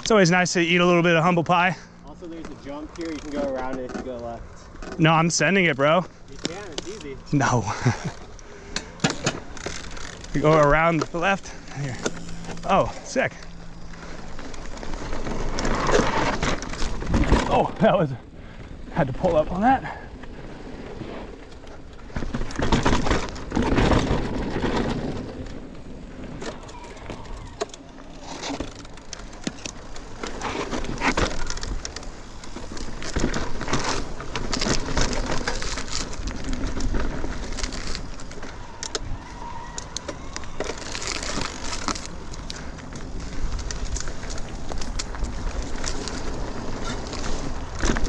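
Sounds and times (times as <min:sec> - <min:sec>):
bike knocking and rattling: 0:00.0 - 0:48.0
bike tyres on dirt and rocks: 0:00.0 - 0:48.0.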